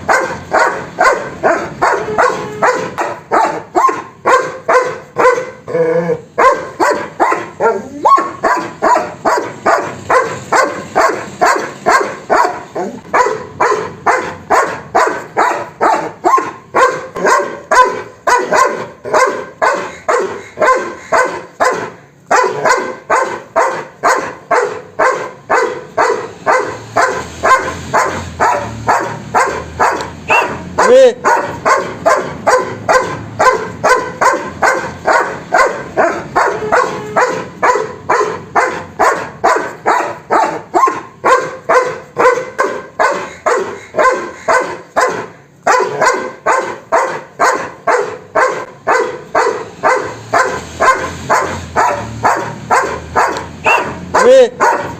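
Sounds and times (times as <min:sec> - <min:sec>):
dog barking: 0:00.0 - 0:54.9.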